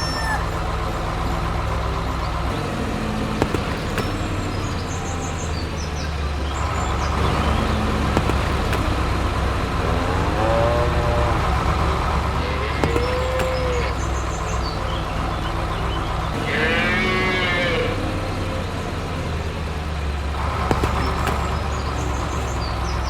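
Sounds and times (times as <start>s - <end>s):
tractor engine humming: 0.0s - 23.0s.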